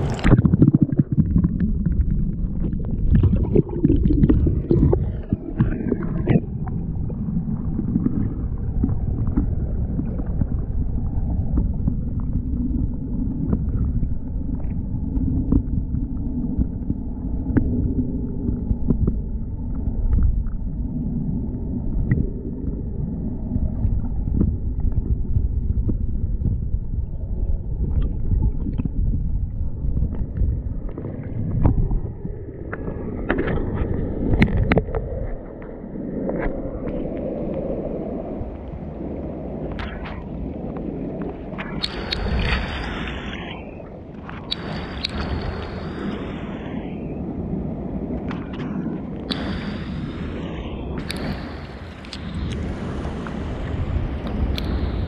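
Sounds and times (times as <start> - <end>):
underwater sea surge rumble: 0.0 - 55.0.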